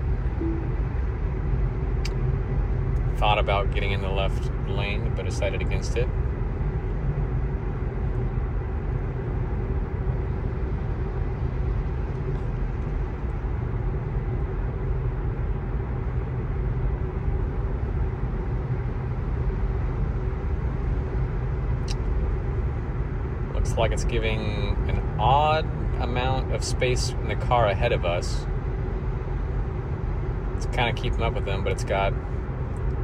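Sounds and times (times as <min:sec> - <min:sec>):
faint steady hum: 0:00.0 - 0:33.0
road and tyre rumble: 0:00.0 - 0:33.0.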